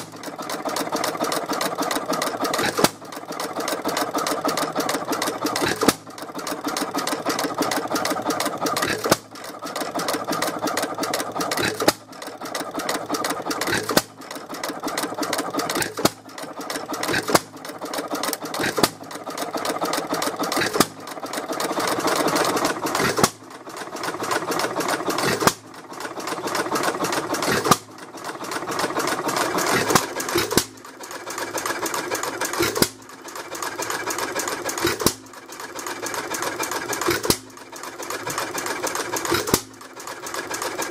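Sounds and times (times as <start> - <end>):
engine rattling clatter: 0.0 - 40.9.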